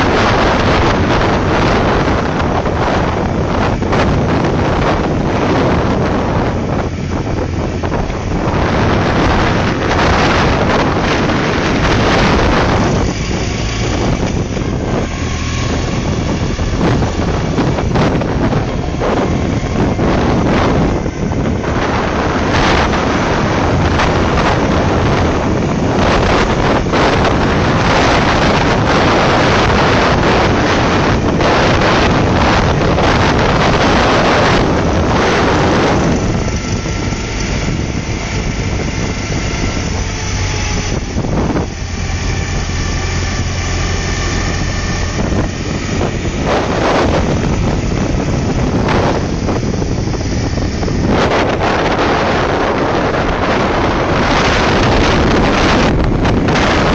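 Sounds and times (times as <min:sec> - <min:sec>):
motorcycle engine drone: 0:00.0 - 0:56.9
wind buffeting microphone: 0:00.0 - 0:56.9.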